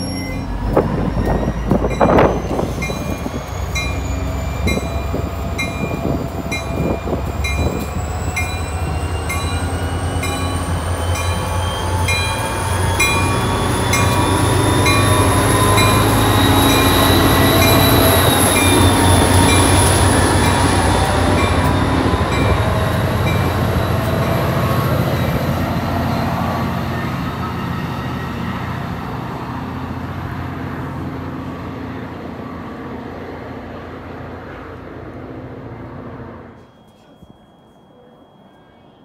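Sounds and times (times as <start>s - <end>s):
train wheels rumbling: 0.0s - 36.7s
high-pitched train whine: 0.0s - 39.0s.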